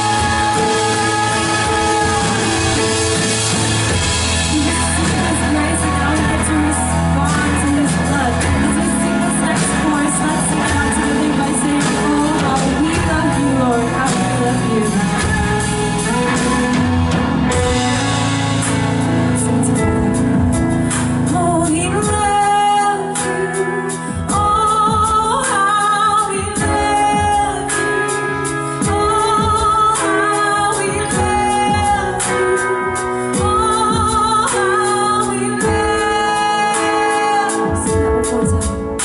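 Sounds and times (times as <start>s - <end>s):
woman singing: 0.0s - 16.9s, 19.4s - 39.0s
worship band playing: 0.0s - 39.0s.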